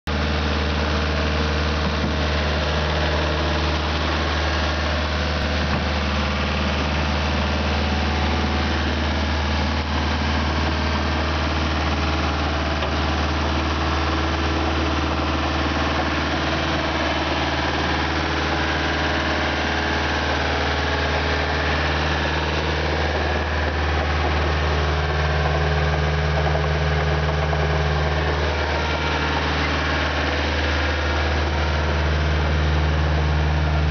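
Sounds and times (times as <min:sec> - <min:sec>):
diesel engine humming steadily: 0:00.0 - 0:33.9.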